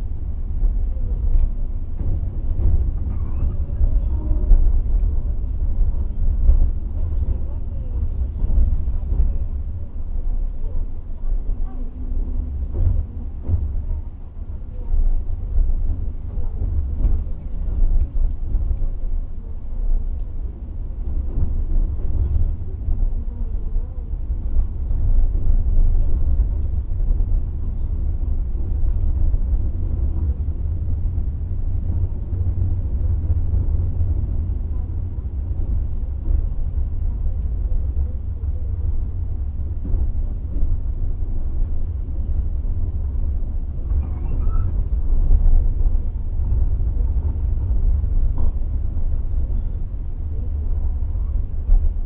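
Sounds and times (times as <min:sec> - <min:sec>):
passenger train rumbling: 0:00.0 - 0:52.0.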